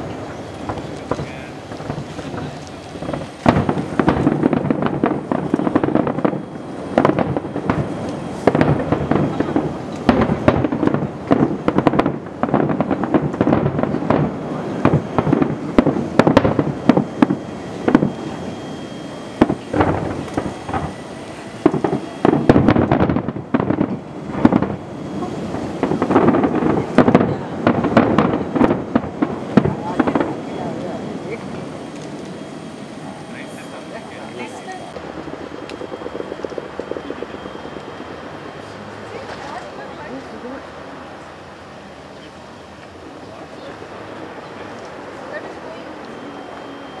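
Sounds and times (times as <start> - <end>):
firework shells booming: 0.0 - 41.8
crackling firework stars: 0.0 - 47.0.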